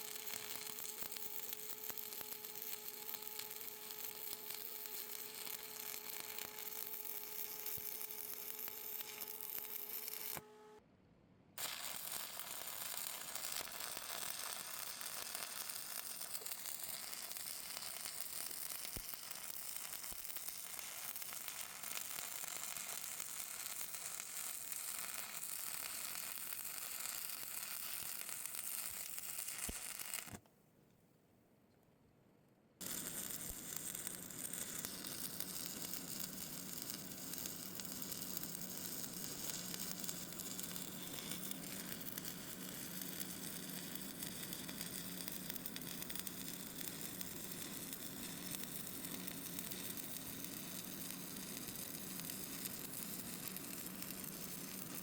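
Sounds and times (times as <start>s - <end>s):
welding arc crackling: 0.0s - 10.4s, 11.6s - 30.4s, 32.8s - 55.0s.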